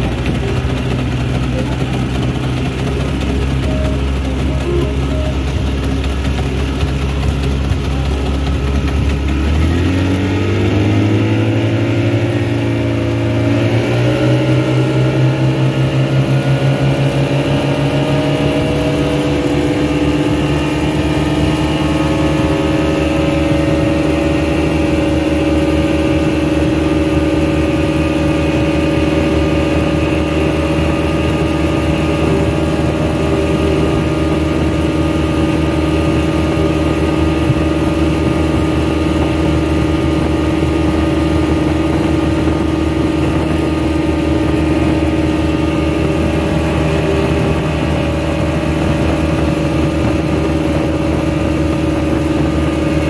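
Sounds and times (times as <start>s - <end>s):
speedboat engine: 0.0s - 53.0s.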